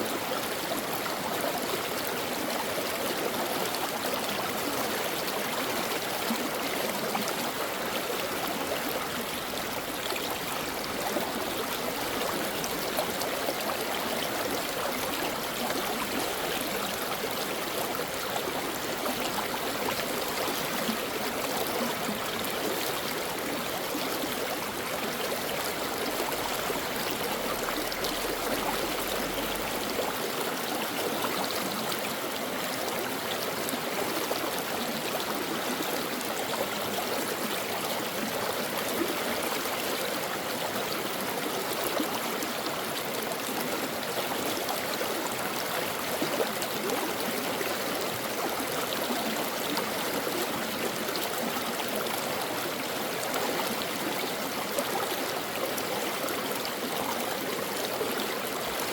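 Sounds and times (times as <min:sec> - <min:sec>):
stream babbling over rocks: 0:00.0 - 0:58.9.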